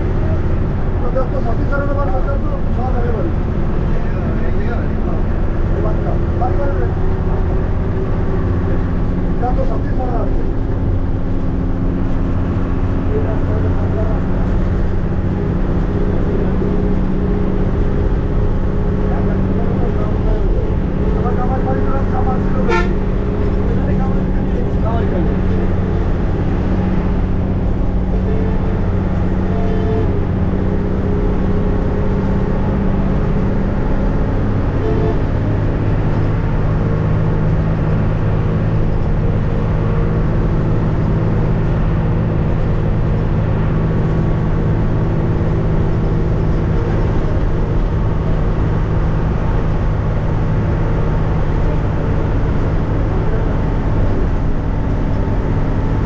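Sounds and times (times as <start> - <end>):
bus engine hum: 0.0 - 56.0
road noise: 0.0 - 56.0.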